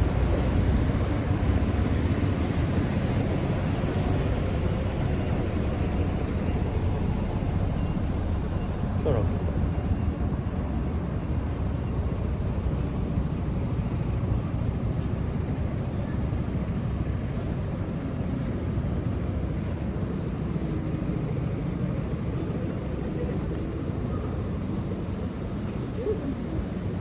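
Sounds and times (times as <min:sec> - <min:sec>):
low rumble of street noise: 0:00.0 - 0:27.0.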